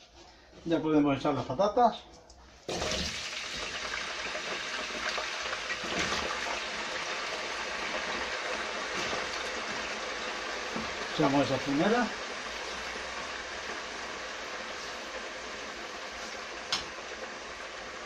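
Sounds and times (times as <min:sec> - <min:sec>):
potatoes sizzling in hot oil: 0:02.7 - 0:18.0.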